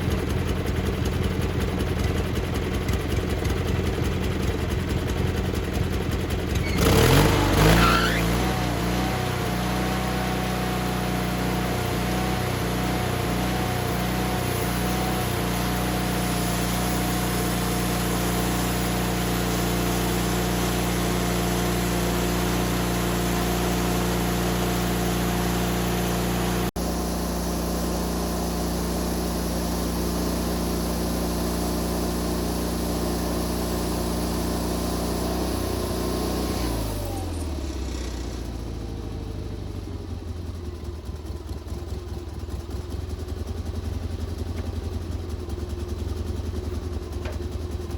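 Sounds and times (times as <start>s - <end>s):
sawmill engine drone: 0.0s - 42.4s.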